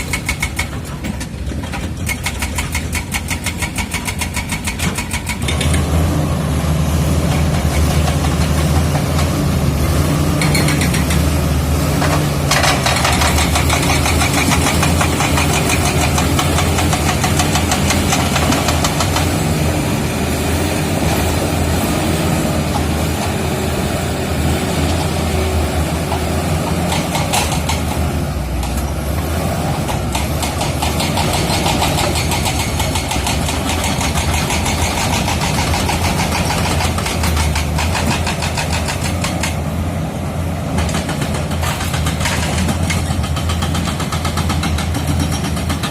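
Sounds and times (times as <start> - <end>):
steel tracks clanking: 0.0 - 6.1, 6.7 - 45.9
bulldozer diesel engine under load: 0.0 - 45.9.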